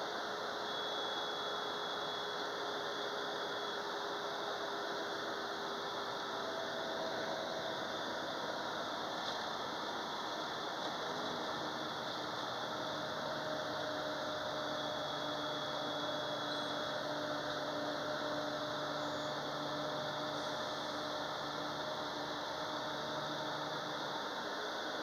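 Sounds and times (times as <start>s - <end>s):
faint steady hum: 0.0s - 25.0s
road and engine noise: 0.1s - 25.0s.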